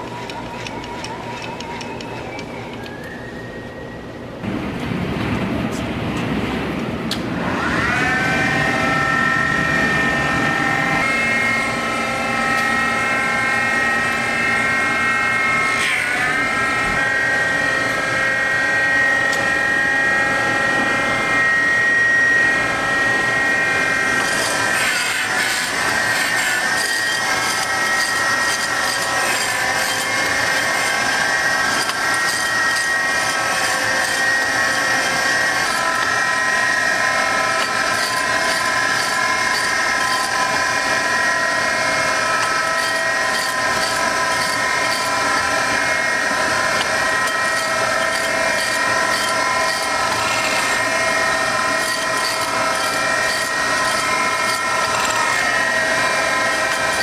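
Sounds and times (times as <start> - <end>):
surface grinder humming: 7.2 - 57.0.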